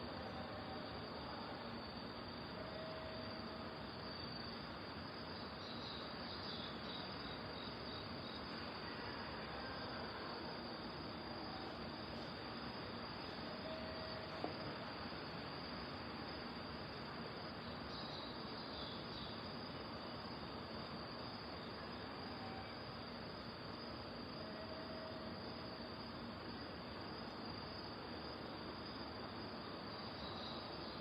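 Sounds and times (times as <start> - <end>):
night insects chirping: 0.0 - 31.0.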